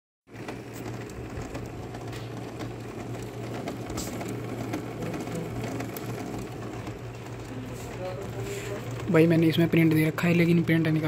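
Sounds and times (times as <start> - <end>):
printer mechanism humming: 0.3 - 11.0.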